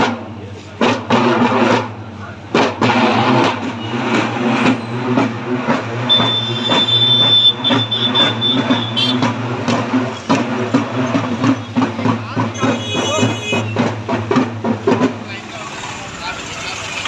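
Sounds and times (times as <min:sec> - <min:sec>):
barrel drums beaten with sticks: 0:00.0 - 0:16.0.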